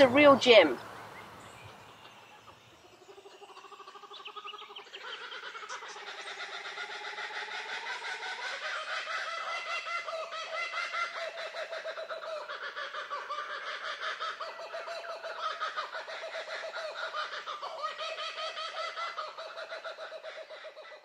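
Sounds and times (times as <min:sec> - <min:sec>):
chorus of birds calling: 0:00.0 - 0:21.0.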